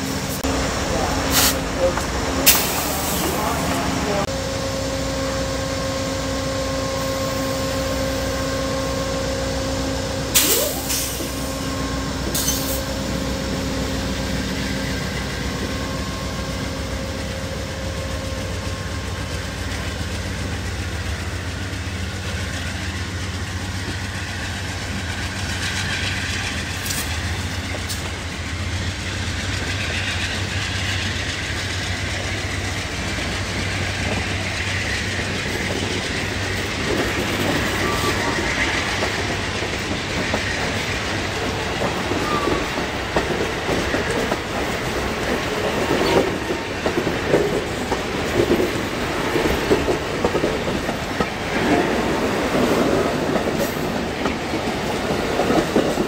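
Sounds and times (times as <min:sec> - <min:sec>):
diesel locomotive engine drone: 0:00.0 - 0:56.0
train wheels rumbling on rails: 0:00.0 - 0:56.0.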